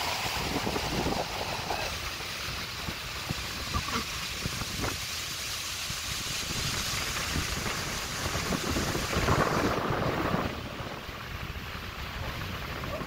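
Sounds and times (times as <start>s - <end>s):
wind buffeting microphone: 0.0s - 5.2s, 5.8s - 13.0s
waterfall rushing hiss: 0.0s - 13.0s.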